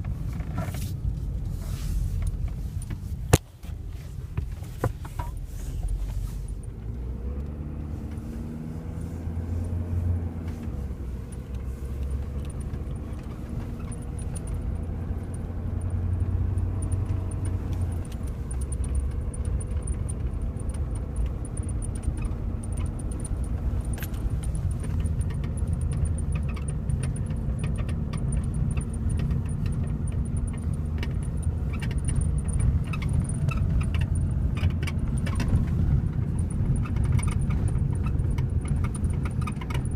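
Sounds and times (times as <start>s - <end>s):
diesel engine running: 0.0s - 39.9s
light clicks and rattles: 0.0s - 39.9s.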